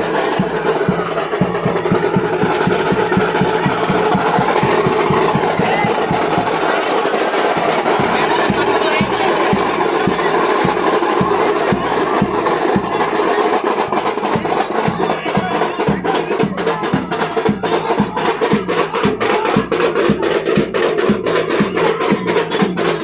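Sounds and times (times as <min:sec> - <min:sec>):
low drum beat: 0:00.0 - 0:23.0
sharp percussion ticks: 0:00.0 - 0:23.0.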